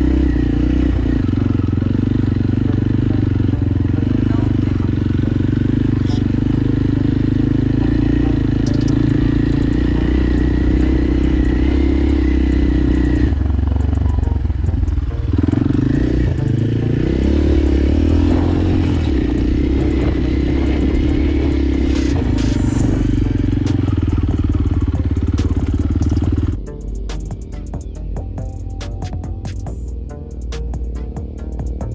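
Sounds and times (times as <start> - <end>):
background music: 0.0 - 31.9
motorcycle engine running: 0.0 - 31.9.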